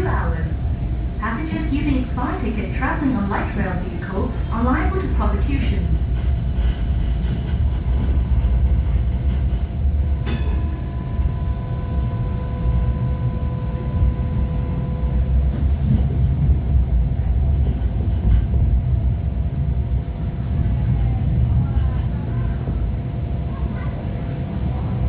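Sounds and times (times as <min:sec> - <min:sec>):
wheels rumbling on track: 0:00.0 - 0:25.0.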